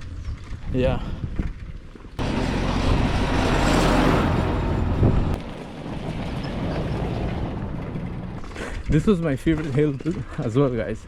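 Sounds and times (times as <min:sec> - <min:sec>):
bicycle tyre rumble: 0:00.0 - 0:10.8
wind buffeting microphone: 0:00.0 - 0:11.0.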